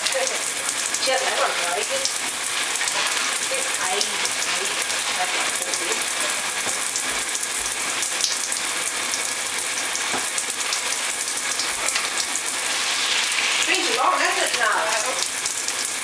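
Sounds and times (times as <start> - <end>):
shower water spraying on plastic: 0.0 - 16.0.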